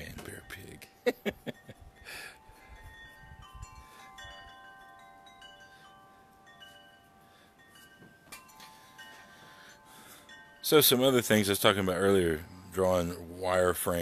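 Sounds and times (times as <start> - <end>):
faint wind chimes ringing: 0.0 - 14.0.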